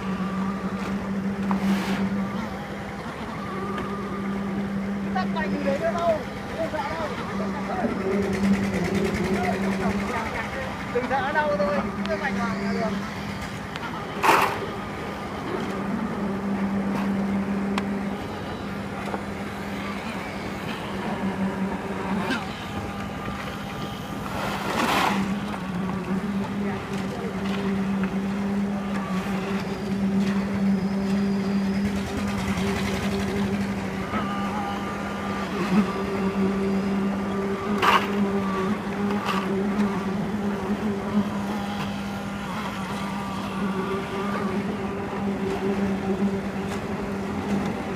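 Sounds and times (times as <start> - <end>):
engine running steadily: 0.0 - 47.9.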